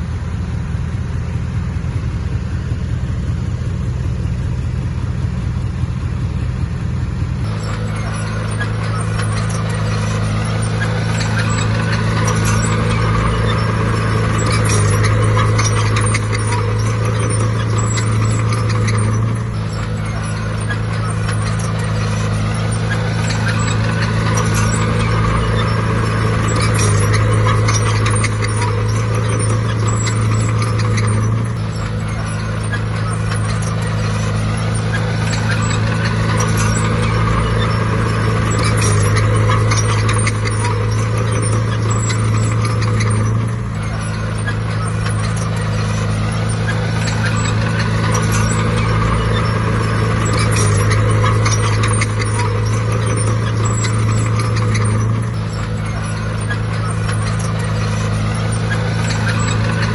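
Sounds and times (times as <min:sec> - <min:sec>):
bulldozer diesel engine: 0:00.0 - 0:59.9
rapid clicking and clatter: 0:07.4 - 0:59.9.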